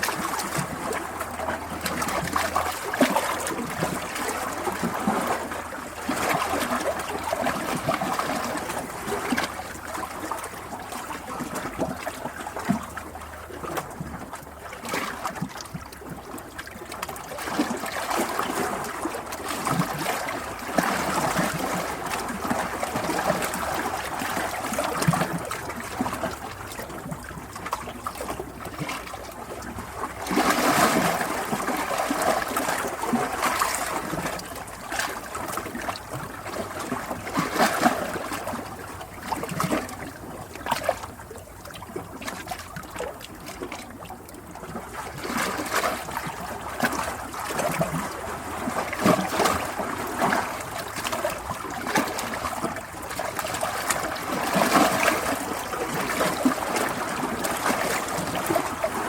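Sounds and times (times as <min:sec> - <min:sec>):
water trickling and flowing: 0:00.0 - 0:59.0.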